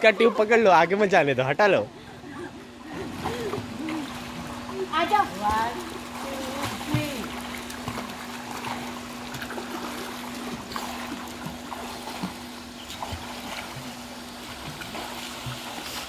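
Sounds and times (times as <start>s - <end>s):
pool water splashing: 0.0s - 16.0s
steady hum: 0.0s - 16.0s.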